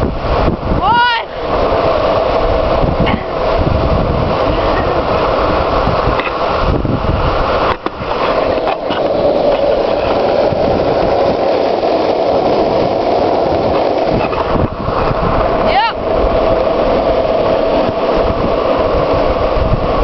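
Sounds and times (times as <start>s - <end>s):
longboard wheels rolling on asphalt: 0.0s - 20.0s
wind rushing over microphone: 0.0s - 20.0s.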